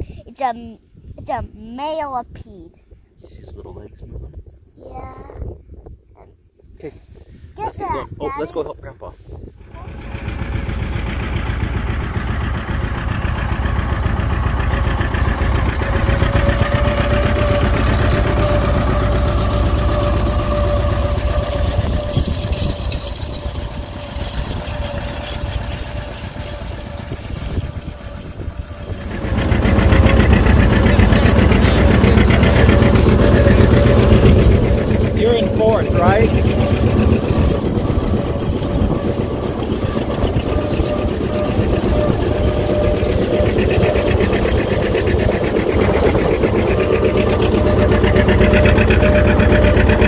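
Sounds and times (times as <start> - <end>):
tractor diesel engine running: 9.6 - 50.0.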